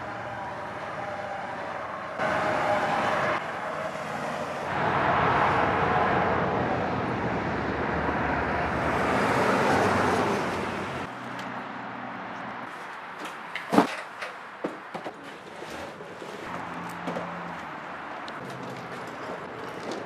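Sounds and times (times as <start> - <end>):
highway traffic rushing: 0.0 - 20.0.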